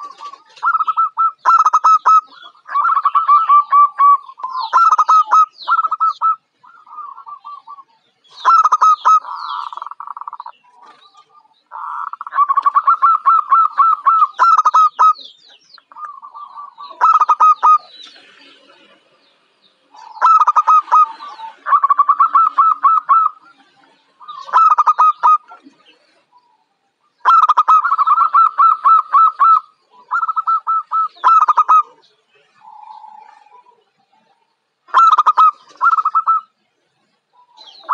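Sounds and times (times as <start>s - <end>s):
dove cooing: 0.0s - 15.3s, 15.9s - 19.0s, 19.9s - 36.6s.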